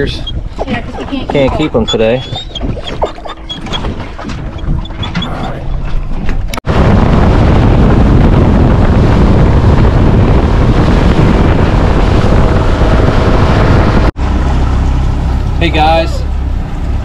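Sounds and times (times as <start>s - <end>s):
boat rushing across water: 0.0s - 17.0s
wind buffeting microphone: 0.0s - 17.0s.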